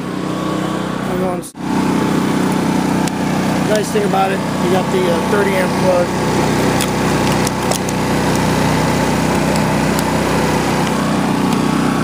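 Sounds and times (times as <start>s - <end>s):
generator running: 0.0s - 12.0s.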